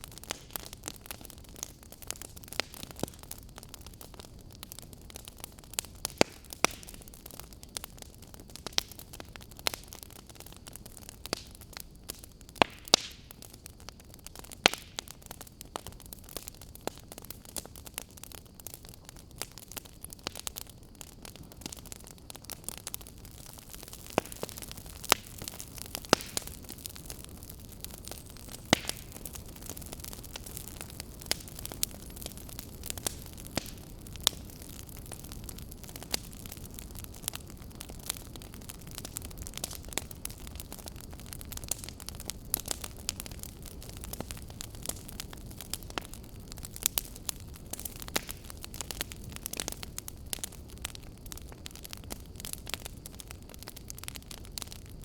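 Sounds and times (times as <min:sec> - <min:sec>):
fire crackling: 0:00.0 - 0:55.0.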